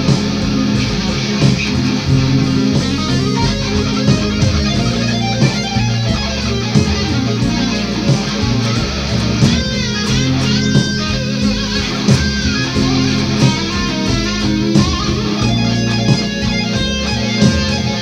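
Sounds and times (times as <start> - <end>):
bass: 0.0 - 18.0
electric blues guitar solo: 0.0 - 18.0
slow steady drum beat: 0.0 - 18.0.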